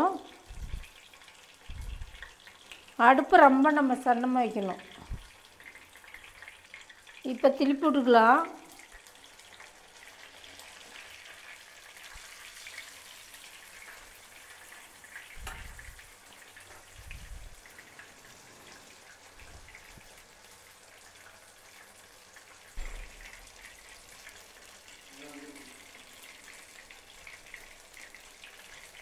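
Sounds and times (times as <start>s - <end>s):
fish sizzling in oil: 0.0s - 29.0s.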